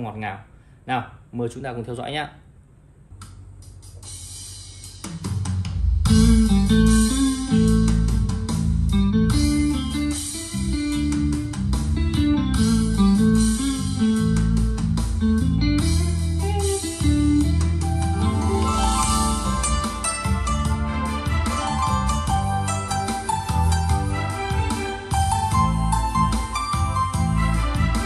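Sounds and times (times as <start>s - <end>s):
guitar-led instrumental song: 5.0s - 28.0s.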